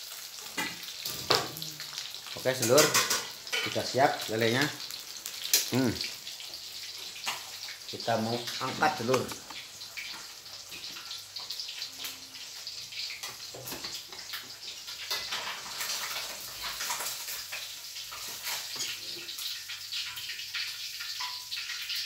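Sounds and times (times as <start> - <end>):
fish deep-frying in oil: 0.0 - 22.0.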